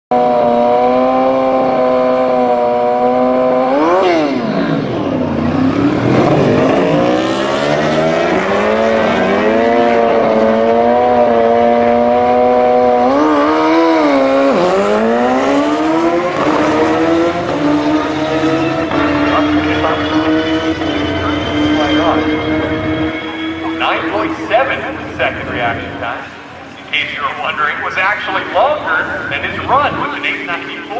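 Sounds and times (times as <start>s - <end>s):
motorcycle engine revving: 0.1s - 27.0s.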